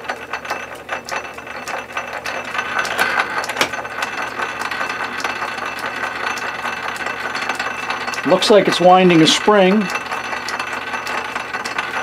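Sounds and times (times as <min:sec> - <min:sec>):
lathe gears clattering: 0:00.0 - 0:12.0.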